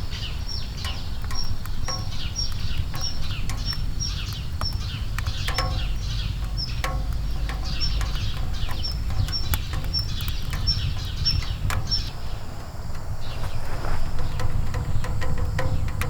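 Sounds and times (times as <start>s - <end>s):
sharp clicks: 0.0s - 13.1s
small birds chirping: 0.0s - 16.0s.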